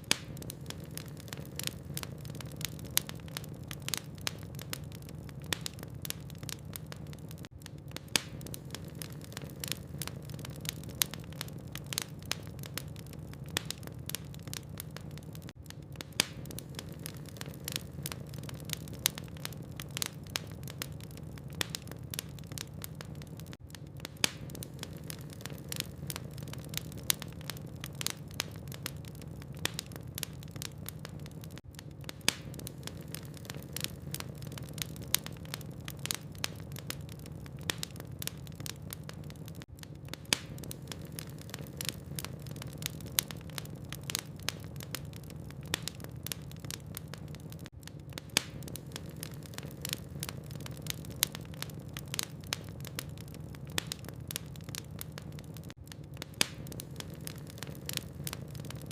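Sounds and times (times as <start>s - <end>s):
fireplace logs crackling: 0.0s - 58.9s
low rumble of fire: 0.0s - 58.9s.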